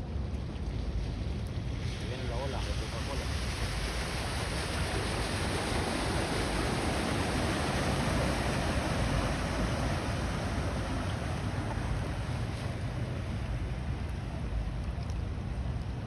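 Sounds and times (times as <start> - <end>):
floodwater rushing down a drain: 0.0 - 16.0
wind buffeting microphone: 0.0 - 16.0.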